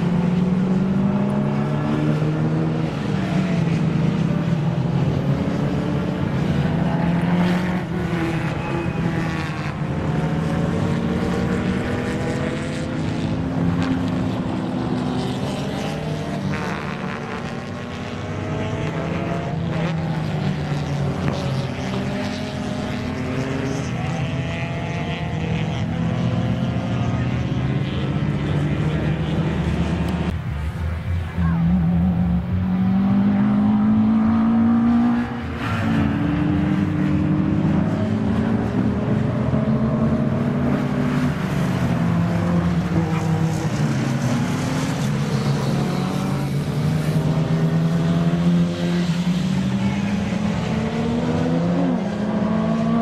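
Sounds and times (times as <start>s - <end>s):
car engines racing: 0.0s - 53.0s.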